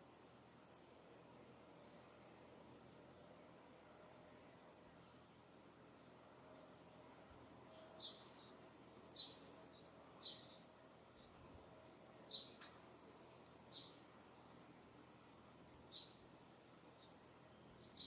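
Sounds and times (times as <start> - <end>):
small birds chirping: 0.0 - 3.2, 3.8 - 5.4, 6.0 - 18.0
faint steady hiss: 0.0 - 18.0.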